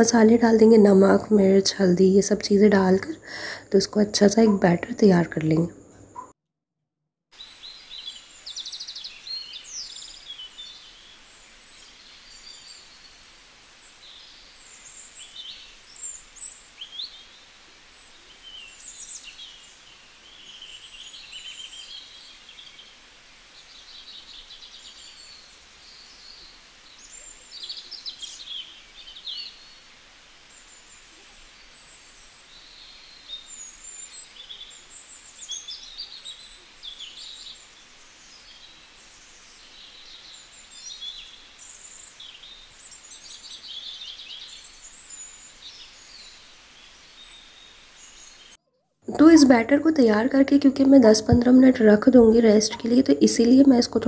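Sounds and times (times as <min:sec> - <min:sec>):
steady hiss: 0:00.0 - 0:06.1, 0:07.4 - 0:54.0
birds chirping: 0:00.0 - 0:06.3, 0:07.4 - 0:54.0.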